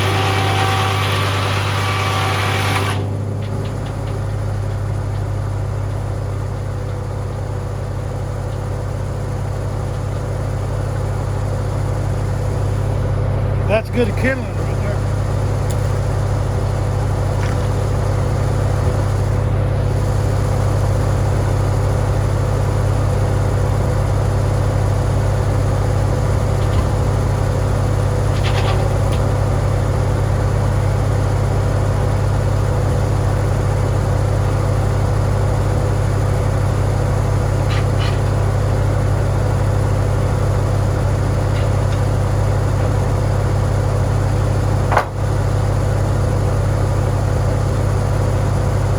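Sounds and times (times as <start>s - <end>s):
tractor engine droning: 0.0s - 48.9s.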